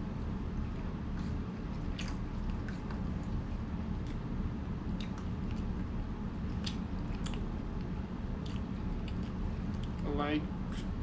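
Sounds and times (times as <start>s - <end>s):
low hum: 0.0s - 11.0s
person chewing noodles: 0.2s - 10.0s, 10.6s - 11.0s.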